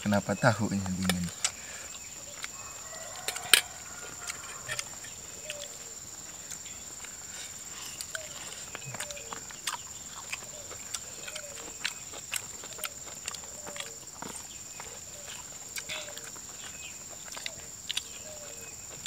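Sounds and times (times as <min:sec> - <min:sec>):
people chewing and eating: 0:00.0 - 0:19.0.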